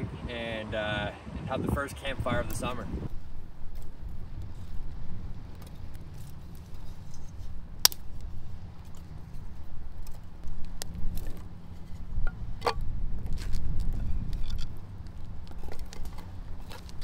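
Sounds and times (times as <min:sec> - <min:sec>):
low steady rumble: 0:01.7 - 0:17.0.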